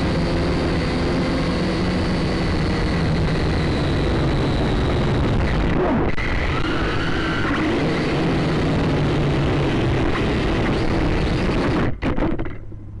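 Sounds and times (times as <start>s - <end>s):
drone motors whirring: 0.0s - 12.6s.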